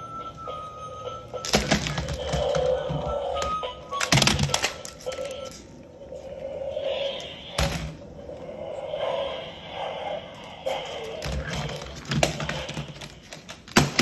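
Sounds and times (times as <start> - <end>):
steady hum: 0.0 - 13.5.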